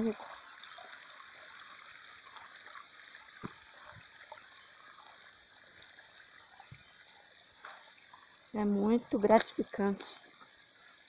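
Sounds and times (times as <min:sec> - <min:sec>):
creek water trickling and gurgling: 0:00.0 - 0:11.0.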